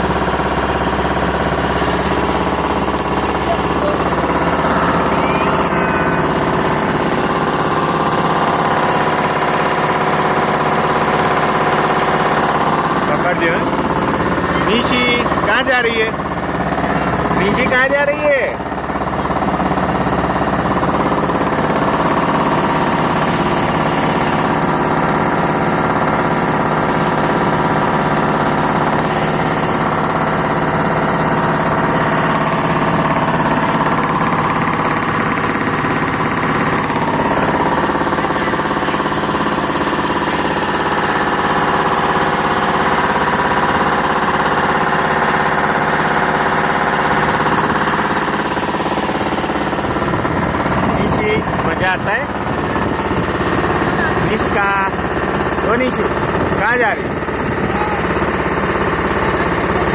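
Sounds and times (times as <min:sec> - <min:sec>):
small boat motor running: 0:00.0 - 0:59.9.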